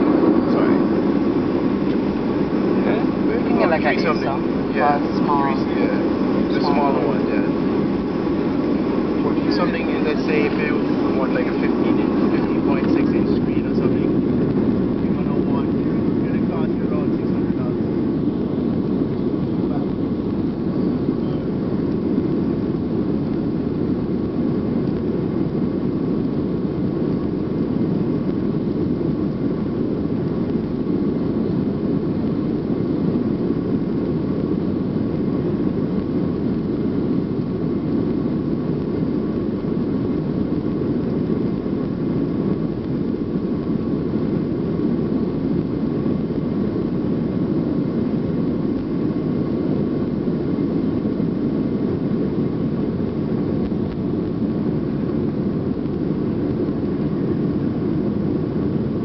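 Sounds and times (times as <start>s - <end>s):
faint engine whine: 0.0s - 59.0s
jet engines roaring: 0.0s - 59.0s.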